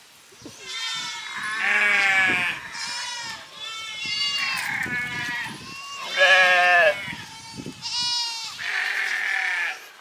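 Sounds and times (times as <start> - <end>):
sheep bleating: 0.6 - 10.0.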